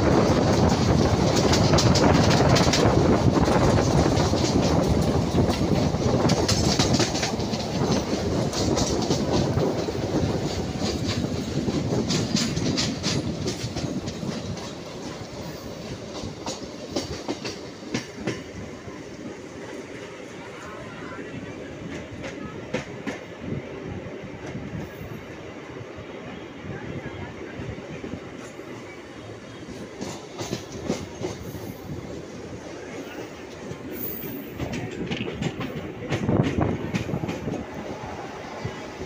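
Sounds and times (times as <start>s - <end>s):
clickety-clack over rail joints: 0.0s - 23.6s, 24.3s - 25.4s, 27.7s - 39.0s
train wheels rumbling on rails: 0.0s - 39.0s.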